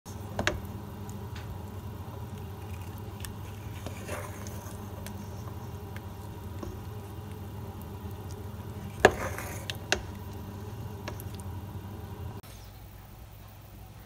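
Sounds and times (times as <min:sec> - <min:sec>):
low hum: 0:00.1 - 0:12.4.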